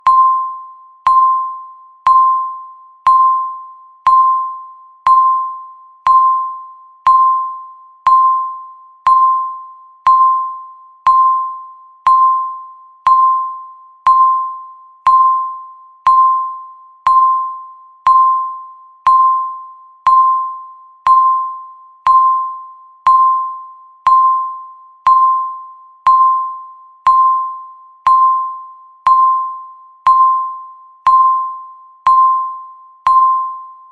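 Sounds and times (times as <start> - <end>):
bell-like timer ticks: 0.0 - 33.9.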